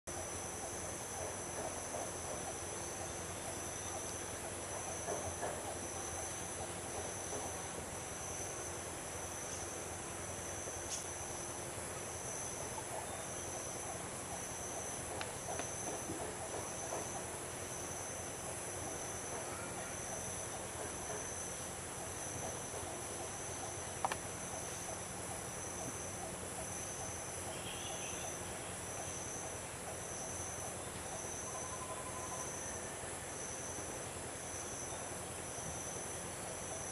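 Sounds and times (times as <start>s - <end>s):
insect chorus drone: 0.1s - 36.9s.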